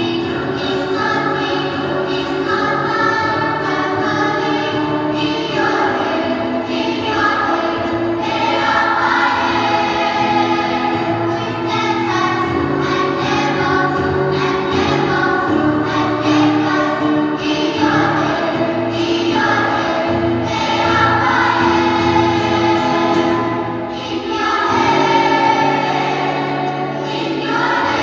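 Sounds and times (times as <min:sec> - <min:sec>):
children's choir singing in harmony: 0:00.0 - 0:28.0.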